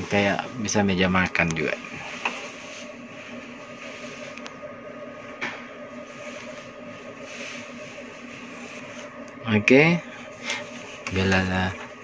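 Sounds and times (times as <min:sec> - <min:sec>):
mechanical hum with hiss: 0:00.0 - 0:12.0.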